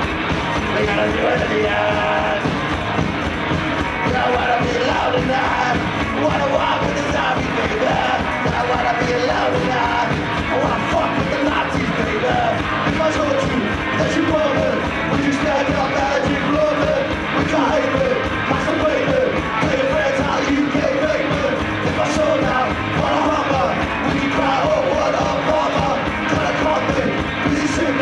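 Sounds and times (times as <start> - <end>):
electric guitar: 0.0 - 28.0
steady drum beat: 0.0 - 28.0.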